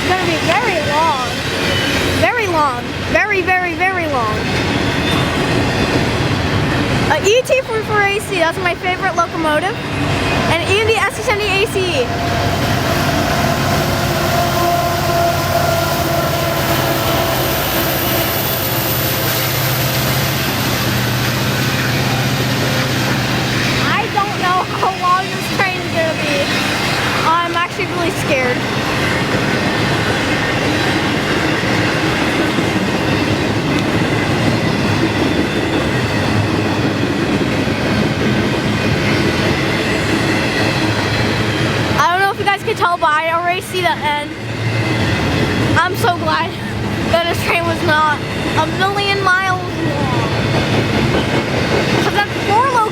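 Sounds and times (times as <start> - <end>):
diesel locomotive engine drone: 0.0 - 52.9
train wheels rumbling on rail: 0.0 - 52.9.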